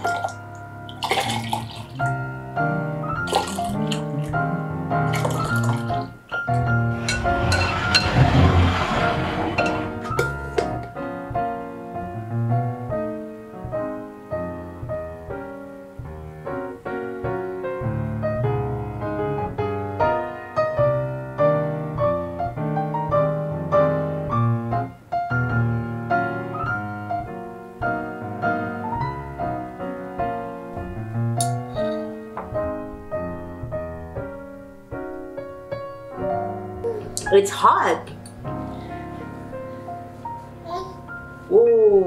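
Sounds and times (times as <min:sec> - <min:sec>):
gentle piano music: 0:00.0 - 0:42.0.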